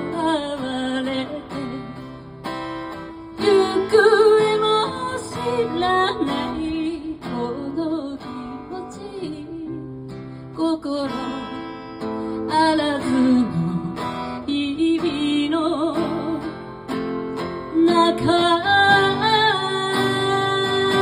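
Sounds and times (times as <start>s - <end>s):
acoustic guitar chords: 0.0s - 21.0s
woman singing: 0.0s - 21.0s.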